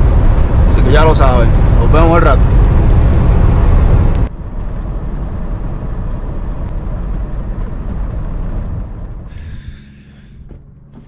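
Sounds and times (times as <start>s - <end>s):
truck road and engine noise: 0.0s - 11.0s.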